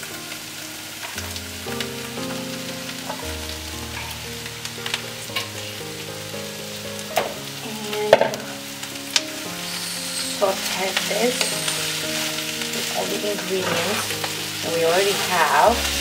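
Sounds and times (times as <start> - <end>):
cabbage sizzling in oil: 0.0 - 16.0
soft background music: 0.0 - 16.0.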